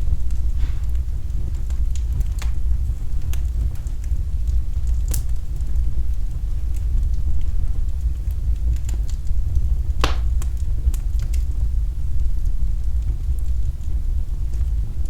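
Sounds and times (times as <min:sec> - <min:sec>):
fire crackling and popping: 0:00.0 - 0:15.0
fire rumbling in fireplace: 0:00.0 - 0:15.0.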